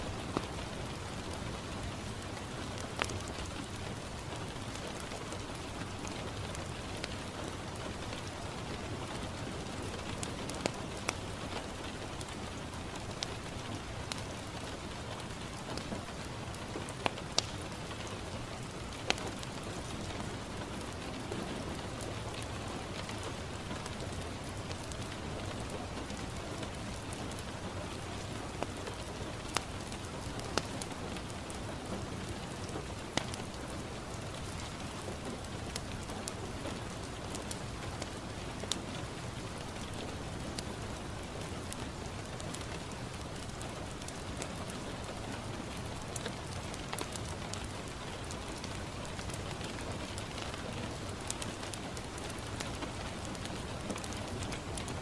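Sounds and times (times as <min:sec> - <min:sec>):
rain on a window: 0:00.0 - 0:55.0
wood fire crackling and popping: 0:00.1 - 0:55.0.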